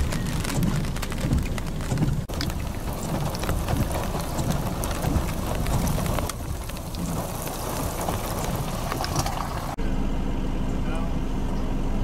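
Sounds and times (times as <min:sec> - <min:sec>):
raindrops ticking on microphone: 0:00.0 - 0:09.8
steady rain: 0:00.0 - 0:09.8
wind rumbling on microphone: 0:00.0 - 0:09.8.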